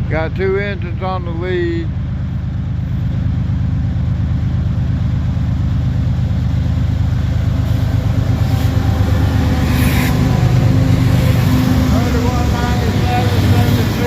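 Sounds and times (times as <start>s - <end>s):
freight locomotives passing: 0.0s - 14.0s.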